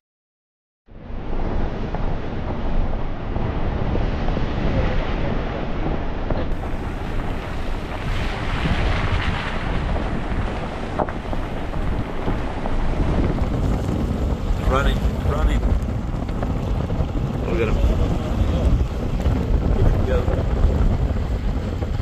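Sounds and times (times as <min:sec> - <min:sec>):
wind buffeting microphone: 0:01.0 - 0:22.0.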